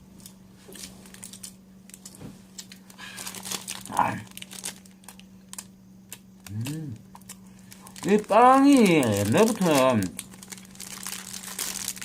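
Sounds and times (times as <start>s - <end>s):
plastic wrapper crinkling: 0.2s - 12.0s.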